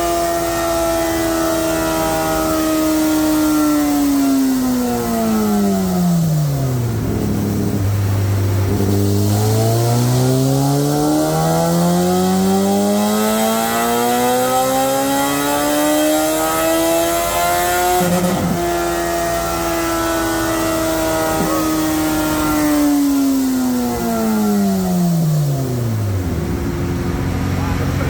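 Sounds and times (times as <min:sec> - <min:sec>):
motorcycle engine revving on dyno: 0:00.0 - 0:28.0.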